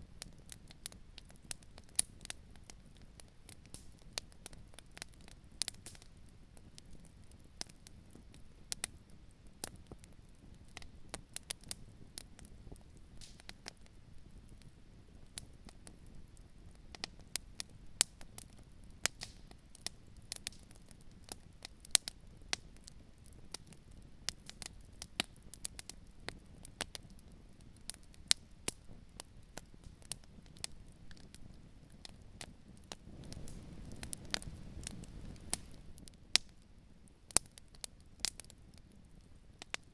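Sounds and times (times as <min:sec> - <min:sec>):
low fire rumble: 0:00.0 - 0:39.9
wood crackling and popping: 0:00.1 - 0:39.9.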